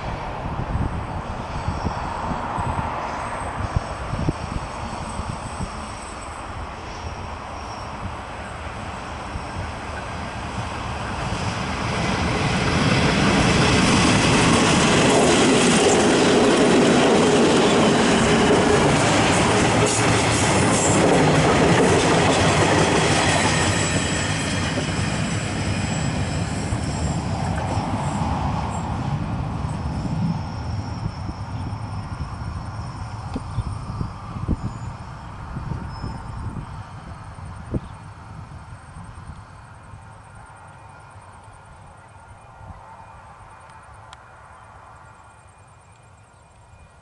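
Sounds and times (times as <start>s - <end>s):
diesel locomotive engine: 0.0s - 47.0s.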